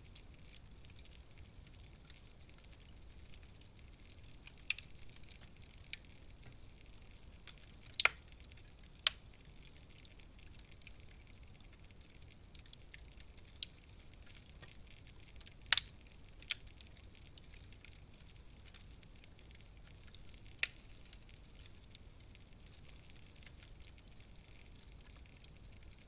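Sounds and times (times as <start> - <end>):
faint steady hiss: 0.0 - 26.0
wood fire crackling: 0.0 - 26.0.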